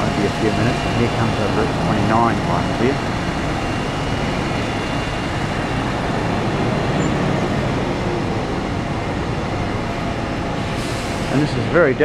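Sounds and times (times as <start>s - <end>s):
buses passing: 0.0s - 12.0s.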